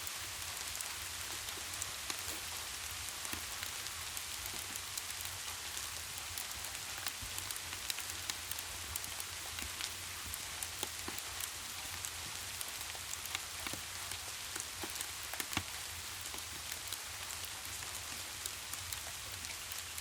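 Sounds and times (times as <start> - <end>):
sharp raindrop ticks: 0.0 - 20.0
steady rain hiss: 0.0 - 20.0.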